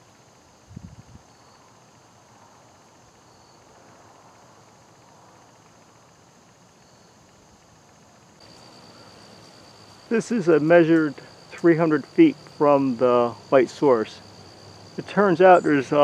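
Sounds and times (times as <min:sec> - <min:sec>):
high insect chirps: 0:00.0 - 0:16.0
high insect trill: 0:00.0 - 0:16.0
insects droning: 0:00.0 - 0:16.0.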